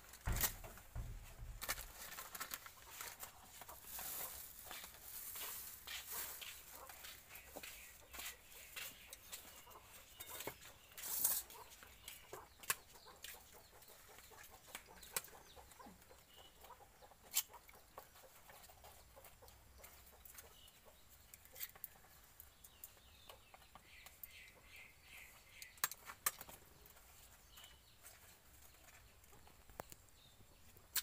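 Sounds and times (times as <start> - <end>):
chickens clucking: 0.2 - 31.0.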